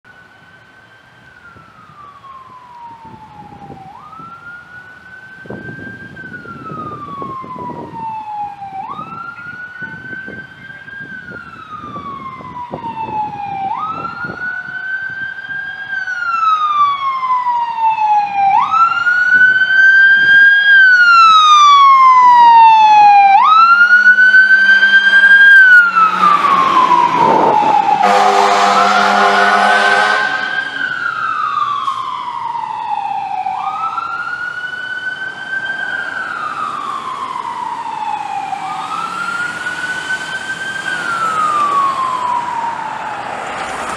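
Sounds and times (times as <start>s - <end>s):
engine and road noise: 0.0s - 43.9s
fire engine siren wailing: 0.0s - 43.9s.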